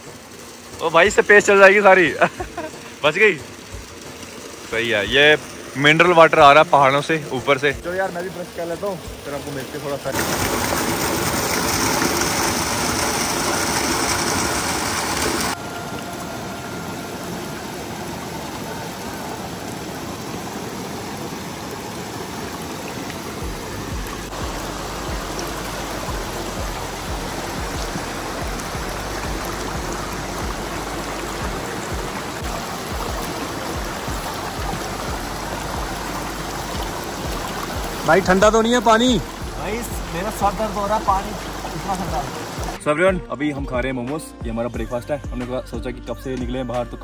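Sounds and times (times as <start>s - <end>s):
spring water running: 0.0s - 42.8s.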